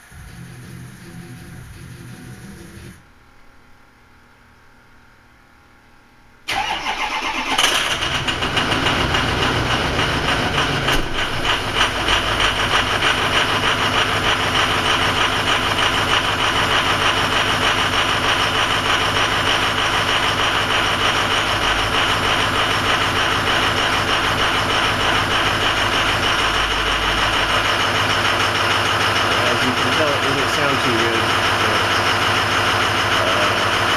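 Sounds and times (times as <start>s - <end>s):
diesel engine starting and running: 0.0s - 3.0s, 6.5s - 33.9s.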